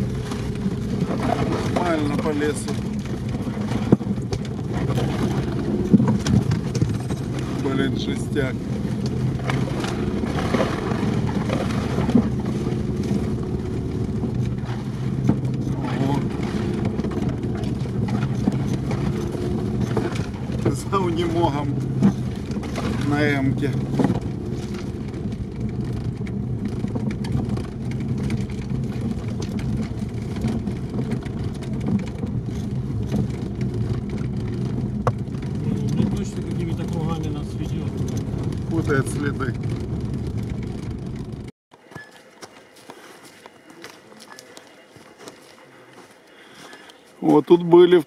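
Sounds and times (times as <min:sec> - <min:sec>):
car body knocking and rattling: 0:00.0 - 0:41.5
car engine running under load: 0:00.0 - 0:48.0.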